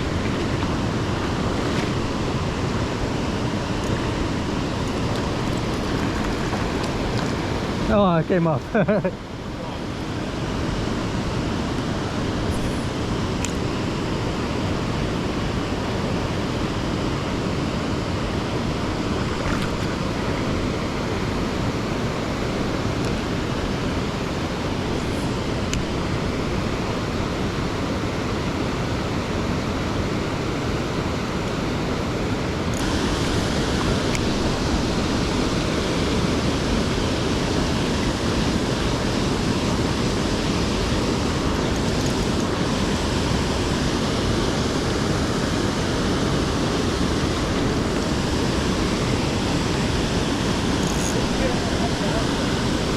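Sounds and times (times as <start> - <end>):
waterfall and river rushing: 0.0 - 52.9.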